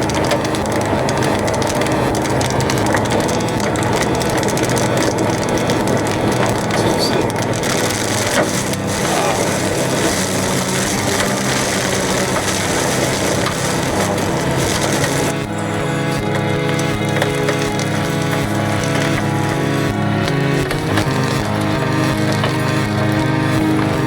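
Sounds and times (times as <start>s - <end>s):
hail clattering: 0.0s - 24.0s.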